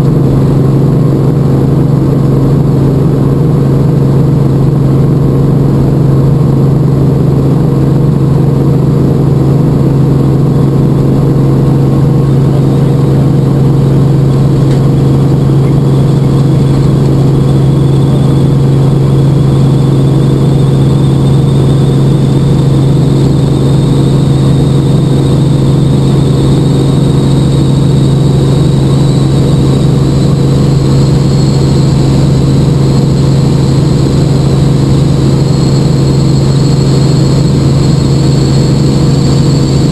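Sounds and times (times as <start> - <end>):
helicopter engine and rotor hum: 0.0 - 39.9
high whine rising in pitch: 0.0 - 39.9.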